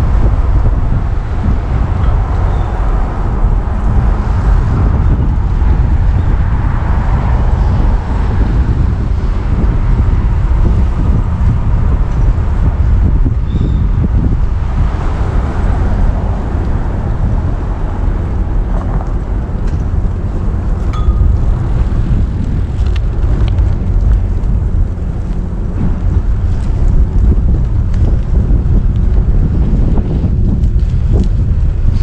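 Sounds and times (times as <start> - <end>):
steady low rumble: 0.0 - 32.0
wind buffeting microphone: 0.0 - 32.0.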